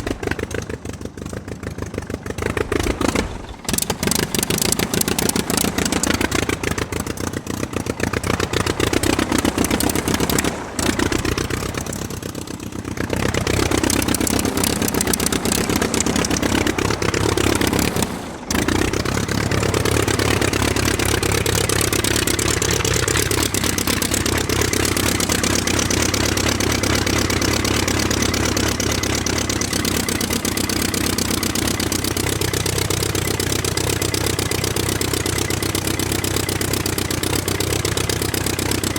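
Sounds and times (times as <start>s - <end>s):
small engine clattering: 0.0s - 38.9s.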